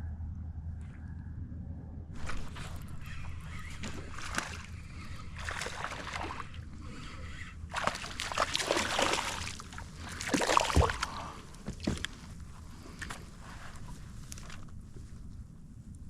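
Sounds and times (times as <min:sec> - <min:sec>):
water splashing and sloshing: 0:02.2 - 0:15.4.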